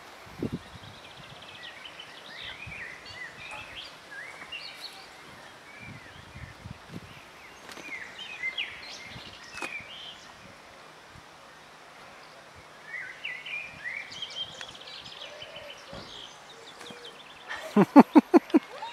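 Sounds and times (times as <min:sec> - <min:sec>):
birds chirping: 0:00.0 - 0:18.9.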